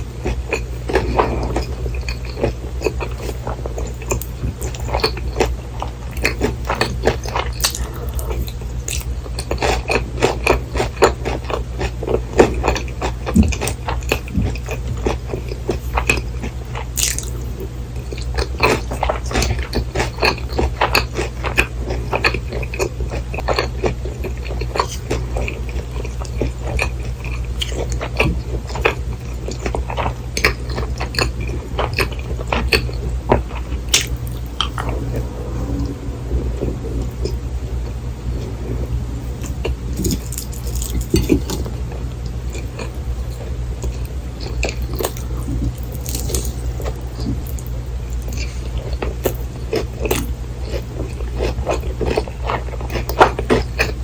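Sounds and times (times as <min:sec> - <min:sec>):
chewing crunchy fried food: 0:00.0 - 0:35.9, 0:38.3 - 0:54.0
steady low hum: 0:00.0 - 0:54.0.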